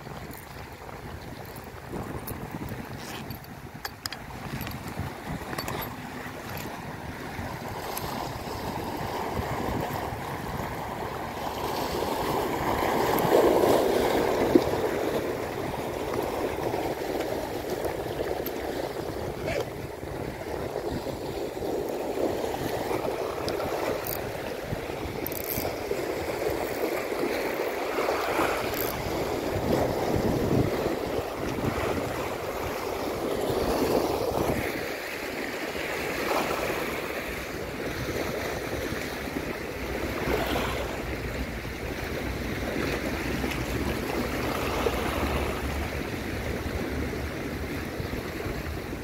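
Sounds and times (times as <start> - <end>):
sea waves washing over rocks: 0.0 - 49.0.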